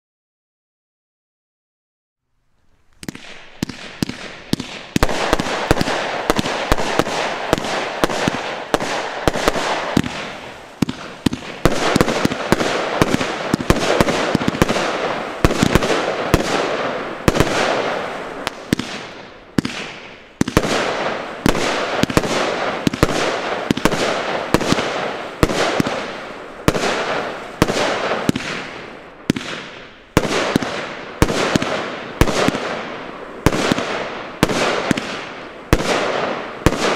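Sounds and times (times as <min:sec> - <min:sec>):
firework cake barrage: 0:02.6 - 0:36.9.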